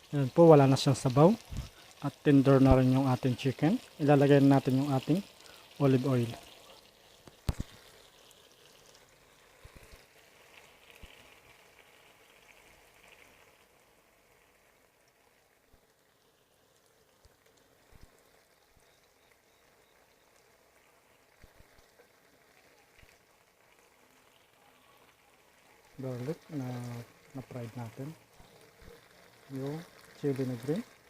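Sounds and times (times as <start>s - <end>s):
chicken sizzling in a pan: 0.0s - 31.0s
oil popping: 0.0s - 31.0s.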